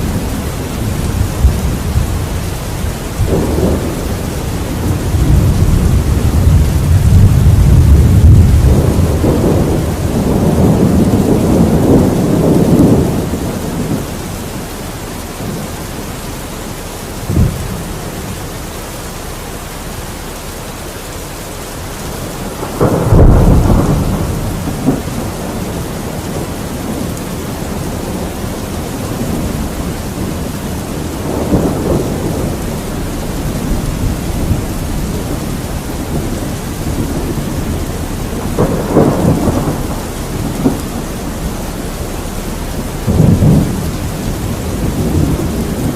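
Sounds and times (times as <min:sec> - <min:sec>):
sharp thunder crack: 0:00.0 - 0:14.0, 0:17.2 - 0:18.4, 0:22.2 - 0:45.9
steady rain: 0:00.0 - 0:45.9
thunder rumbling: 0:00.0 - 0:45.9.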